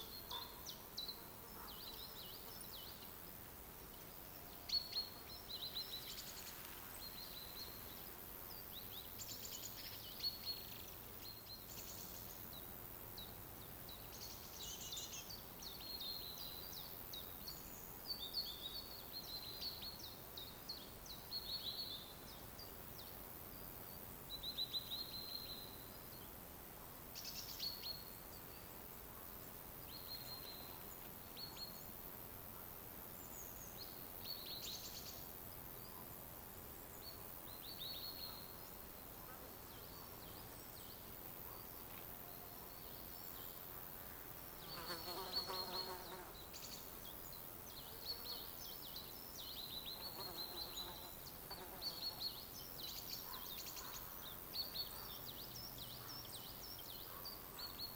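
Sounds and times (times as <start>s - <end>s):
faint steady hiss: 0.0s - 57.9s
songbirds chirping and trilling: 0.0s - 57.9s.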